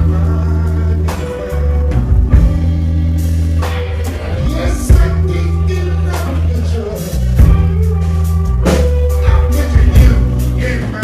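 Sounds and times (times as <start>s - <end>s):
blues band playing live: 0.0s - 11.0s
drum kit: 0.0s - 11.0s
electric bass: 0.0s - 11.0s.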